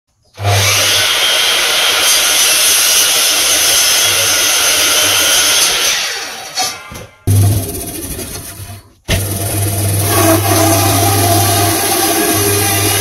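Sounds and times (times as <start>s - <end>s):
mitre saw cutting wood: 0.4s - 13.0s.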